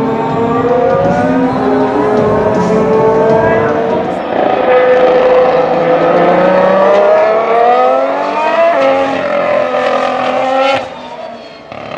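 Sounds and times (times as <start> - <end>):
race car engine accelerating: 0.0 - 11.9.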